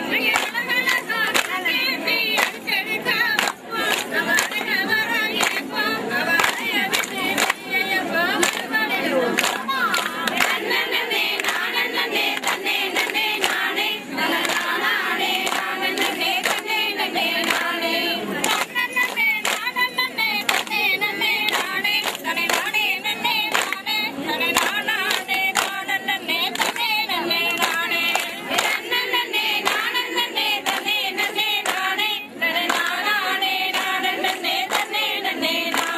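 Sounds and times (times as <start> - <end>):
rhythmic hand claps: 0.0 - 35.9
women and girls singing: 0.0 - 35.9.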